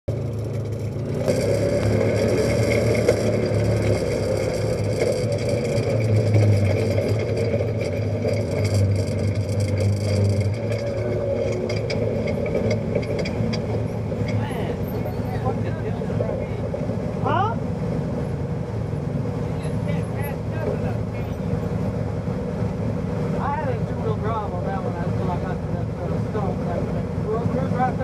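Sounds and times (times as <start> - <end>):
vehicle engine running: 0.0 - 28.0
vehicle rattling over bumps: 0.1 - 28.0.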